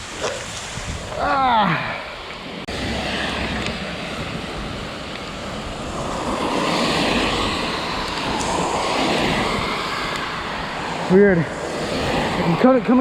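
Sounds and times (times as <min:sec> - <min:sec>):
heavy rain: 0:00.0 - 0:13.0
wind on microphone: 0:00.0 - 0:13.0.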